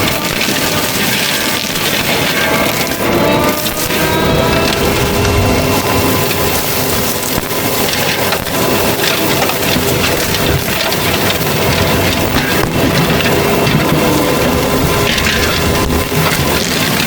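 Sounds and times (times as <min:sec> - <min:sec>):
mulcher grinding wood: 0:00.0 - 0:17.0
steady machine whine: 0:00.0 - 0:17.0.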